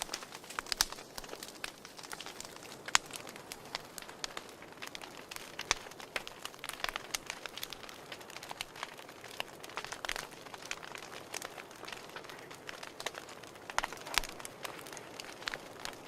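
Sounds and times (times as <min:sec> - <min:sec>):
fire popping: 0:00.0 - 0:16.0
wood fire crackling: 0:00.0 - 0:16.0.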